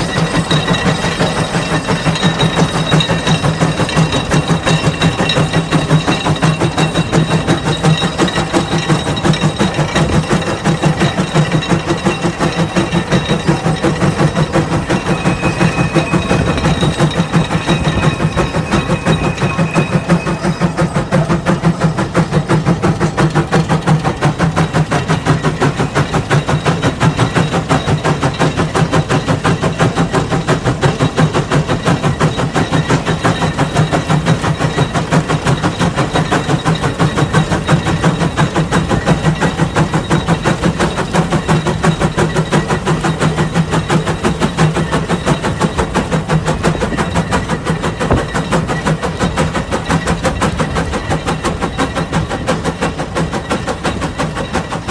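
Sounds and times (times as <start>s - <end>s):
steam engine chuffing: 0.0s - 54.9s.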